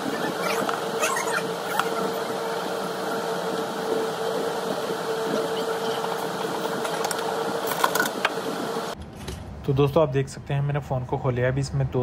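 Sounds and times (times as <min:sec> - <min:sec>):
steady whirring hum: 0:00.0 - 0:12.0.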